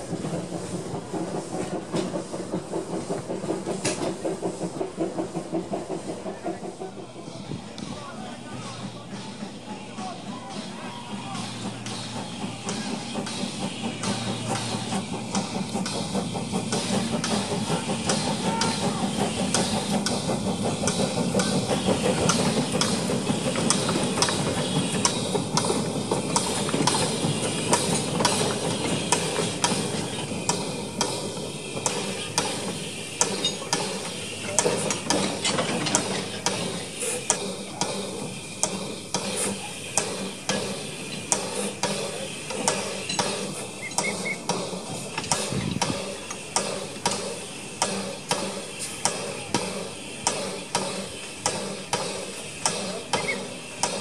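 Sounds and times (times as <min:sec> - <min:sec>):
locomotive machinery clicking: 0:00.0 - 0:54.0
steam hissing: 0:00.0 - 0:54.0.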